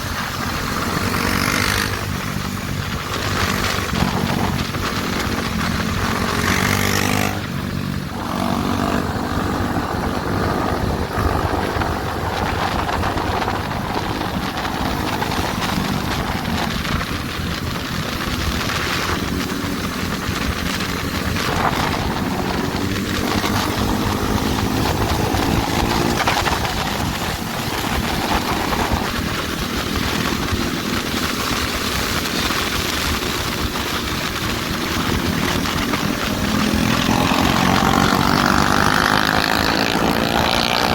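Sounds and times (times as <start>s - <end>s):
motorcycle engines running: 0.0s - 40.9s
wind noise rushing: 0.0s - 40.9s.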